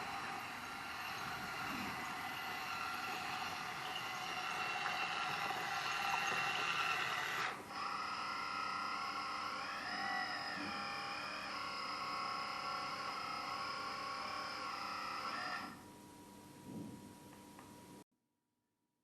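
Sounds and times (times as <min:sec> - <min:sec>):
electric hydraulic pump whining: 0:00.0 - 0:15.8.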